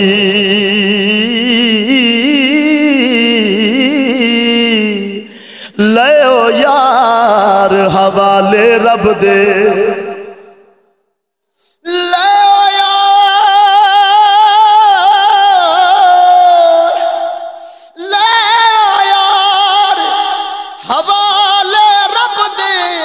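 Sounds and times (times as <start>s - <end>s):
man singing with vibrato: 0.0s - 10.9s, 11.5s - 23.0s.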